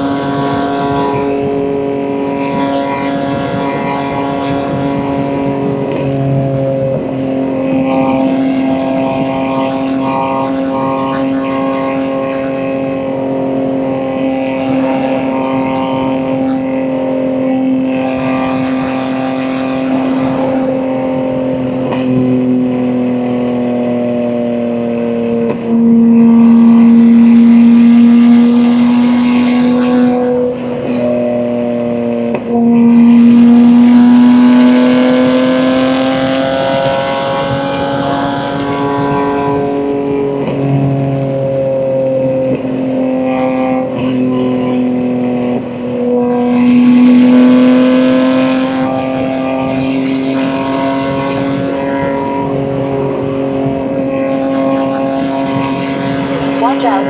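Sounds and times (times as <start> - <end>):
car engine and exhaust: 0.0 - 57.0.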